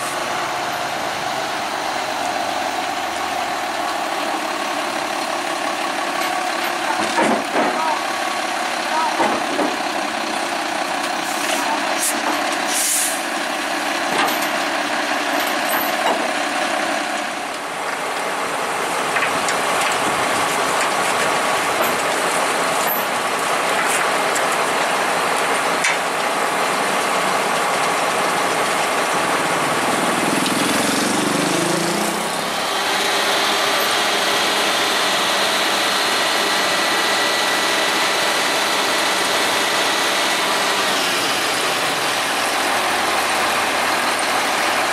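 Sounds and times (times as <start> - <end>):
diesel truck engine idling: 0.0 - 44.9.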